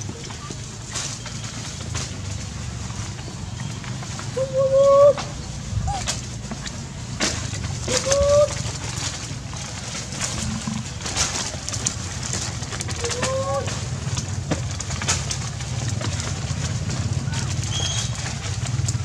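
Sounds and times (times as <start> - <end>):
low steady rumble: 1.7 - 19.0.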